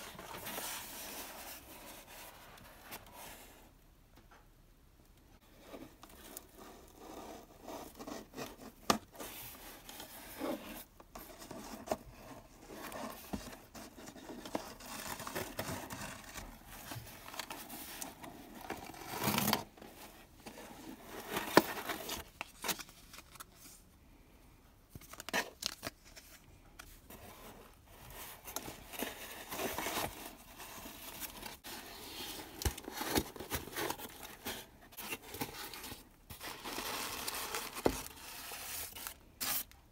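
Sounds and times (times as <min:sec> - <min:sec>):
cardboard scraping and rustling: 0:05.6 - 0:23.1, 0:25.1 - 0:39.9.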